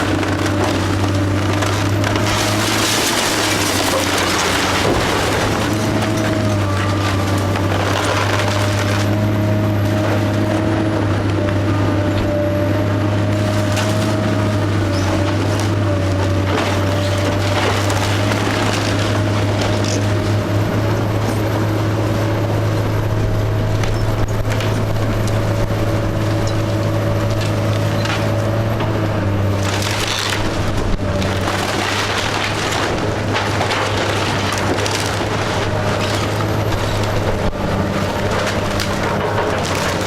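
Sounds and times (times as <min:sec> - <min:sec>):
heavy machinery engine running: 0:00.0 - 0:40.0
timber crushing and splintering: 0:00.0 - 0:40.0.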